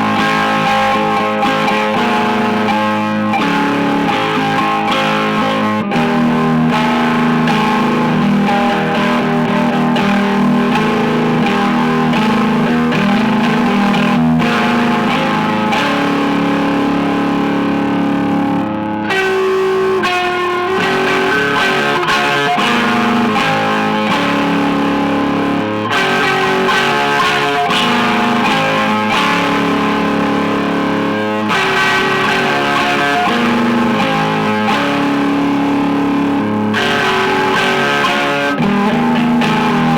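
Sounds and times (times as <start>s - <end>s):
overdriven electric guitar: 0.0s - 39.9s.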